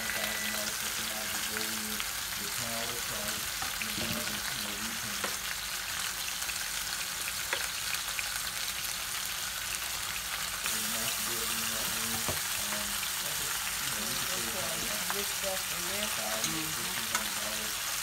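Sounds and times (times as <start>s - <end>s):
chicken sizzling in a skillet: 0.0s - 18.0s.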